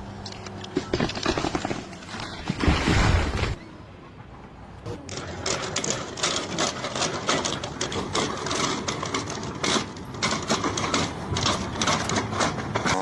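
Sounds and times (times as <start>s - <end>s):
rapid mechanical clatter: 0.0s - 3.6s, 4.6s - 13.0s.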